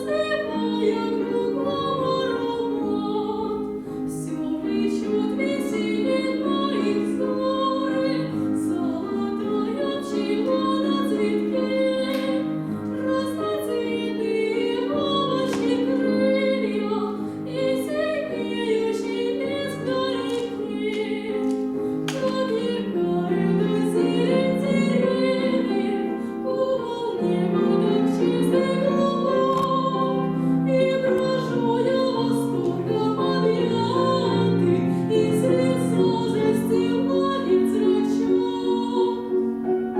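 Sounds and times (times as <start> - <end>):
piano accompaniment: 0.0 - 39.9.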